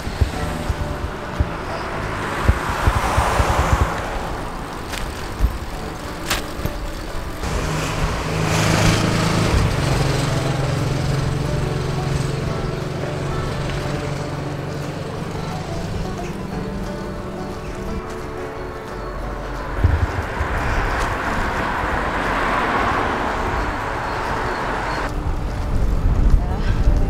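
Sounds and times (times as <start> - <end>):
low engine hum: 0.0 - 27.0
vehicles passing: 0.0 - 27.0.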